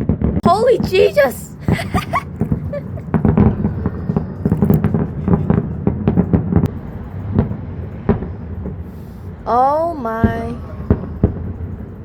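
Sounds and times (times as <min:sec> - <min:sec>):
fireworks bangs and crackles: 0:00.0 - 0:09.0, 0:09.6 - 0:12.0
low rumble: 0:01.5 - 0:12.0.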